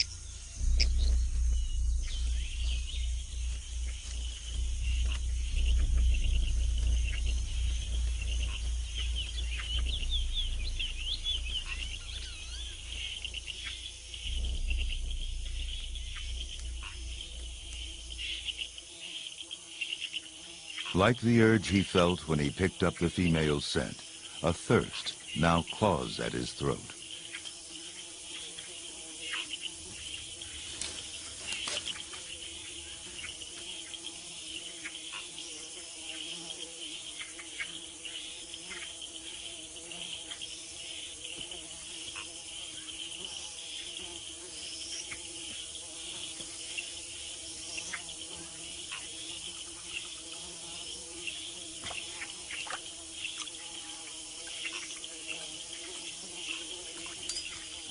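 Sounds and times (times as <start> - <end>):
insects buzzing and chirring: 0.0 - 57.9.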